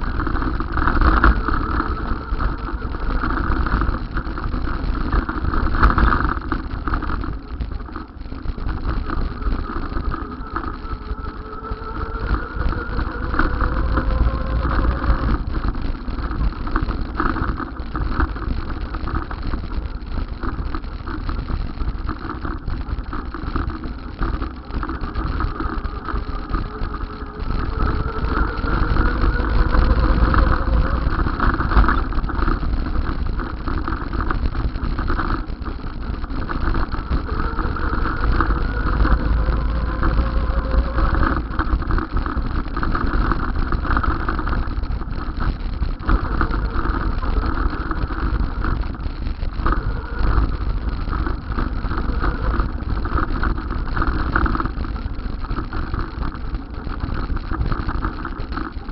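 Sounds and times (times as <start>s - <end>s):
faint whine rising in pitch: 0.0s - 58.9s
vehicle engine noise: 0.0s - 58.9s
wind rumble on microphone: 0.0s - 58.9s.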